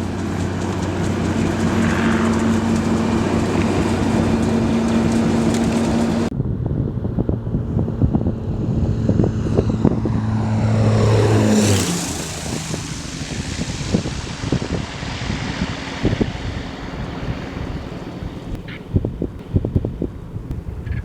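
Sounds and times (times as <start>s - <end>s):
propeller plane passing: 0.0s - 21.0s
wind buffeting microphone: 0.0s - 21.0s.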